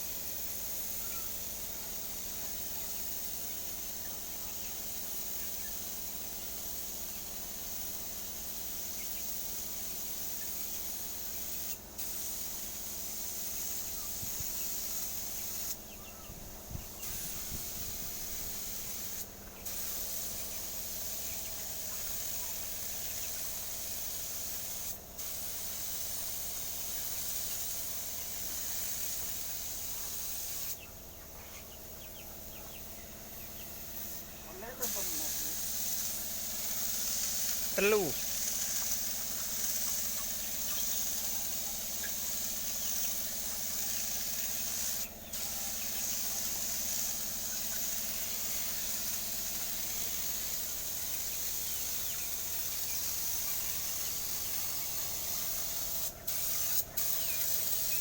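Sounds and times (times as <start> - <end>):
paint spraying hiss: 0.0 - 30.8, 31.6 - 58.0.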